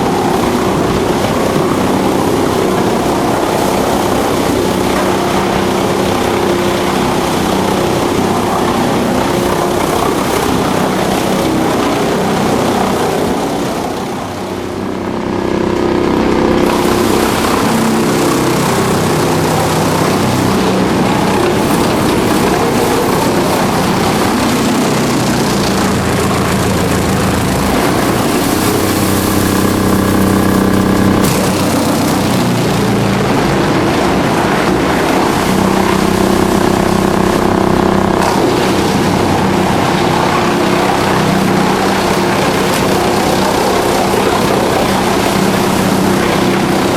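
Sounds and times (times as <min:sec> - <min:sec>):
wood chipper running: 0:00.0 - 0:46.9.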